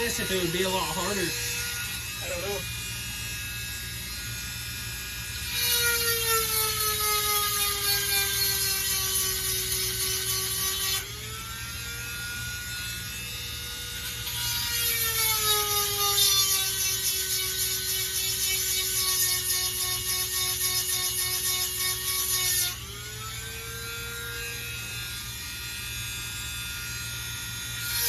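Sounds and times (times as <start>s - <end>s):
rotary tool grinding: 0.0s - 4.3s, 5.3s - 12.3s, 14.0s - 25.7s, 26.8s - 28.0s.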